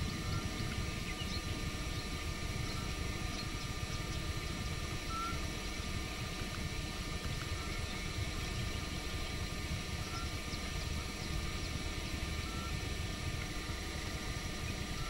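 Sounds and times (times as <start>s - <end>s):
vehicle running rumble and hiss: 0.0s - 15.0s.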